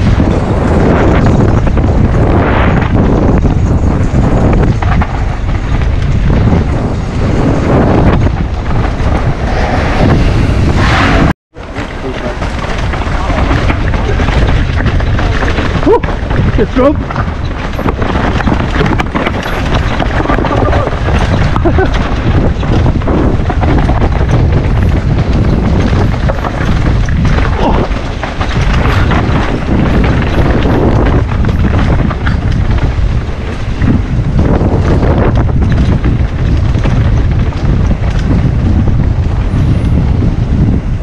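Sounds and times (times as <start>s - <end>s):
bike knocking and rattling: 0.0s - 10.8s, 11.6s - 41.0s
tyre noise: 0.0s - 41.0s
wind rumbling on microphone: 0.0s - 41.0s.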